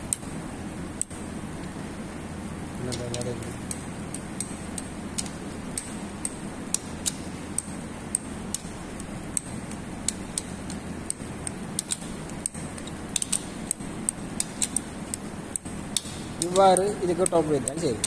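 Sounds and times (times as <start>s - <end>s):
steady low hum: 0.0s - 18.0s
torque wrench clicking: 2.8s - 18.0s.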